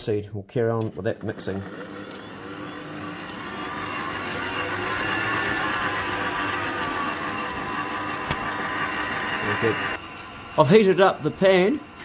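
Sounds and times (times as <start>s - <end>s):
stand mixer kneading dough: 1.0s - 12.0s.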